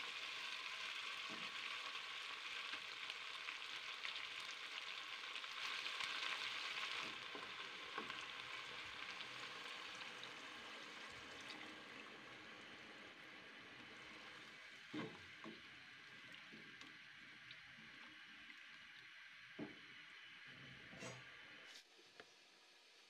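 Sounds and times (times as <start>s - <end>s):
liquid poured into sizzling pot: 0.0s - 19.4s.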